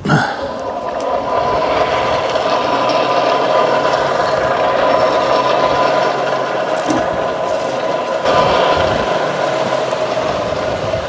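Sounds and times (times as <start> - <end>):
constant hum: 0.0 - 11.0
forge whirring rush: 0.0 - 11.0.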